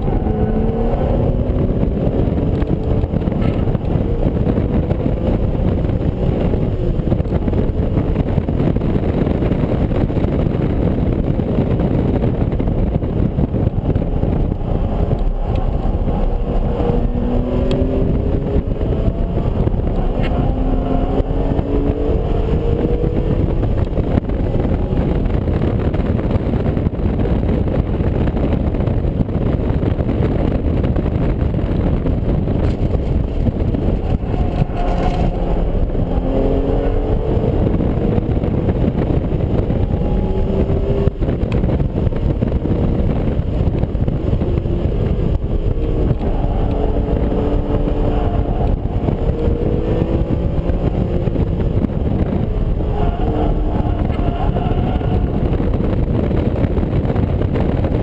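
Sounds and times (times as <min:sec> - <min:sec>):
car engine accelerating: 0:00.0 - 0:58.0
road and wind noise: 0:00.0 - 0:58.0.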